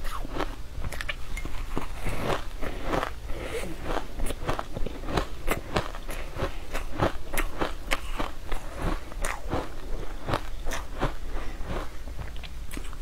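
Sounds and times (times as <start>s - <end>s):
crunching and chewing sweet: 0.0s - 13.0s.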